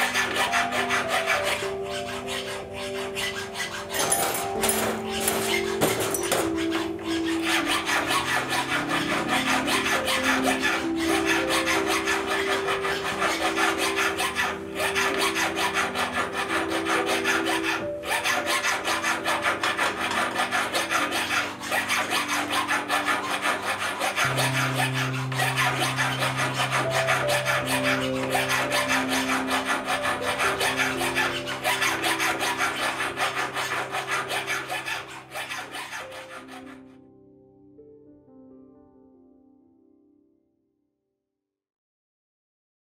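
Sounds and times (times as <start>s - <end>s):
hand file rasping on metal ring: 0.0s - 36.8s
soft music: 0.0s - 40.8s.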